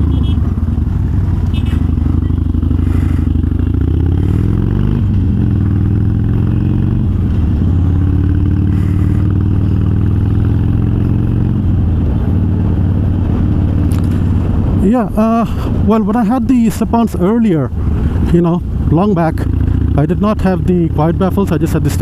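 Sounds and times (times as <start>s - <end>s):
motorcycle engine accelerating: 0.0s - 15.9s, 16.5s - 22.0s.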